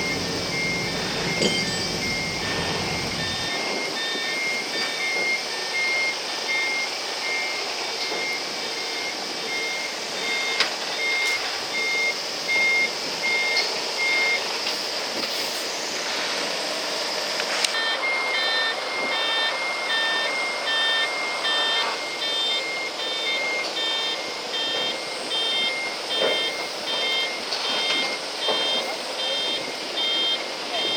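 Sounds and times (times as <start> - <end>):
two-tone alarm beeps: 0.0 - 14.4, 17.7 - 30.9
reversing alarm beeping: 0.0 - 14.6, 17.5 - 30.9.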